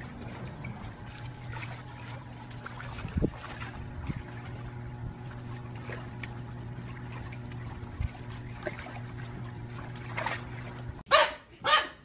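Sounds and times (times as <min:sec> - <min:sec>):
water splashes: 0:00.0 - 0:11.0
pool water lapping: 0:00.0 - 0:11.1
steady low hum: 0:00.0 - 0:11.1.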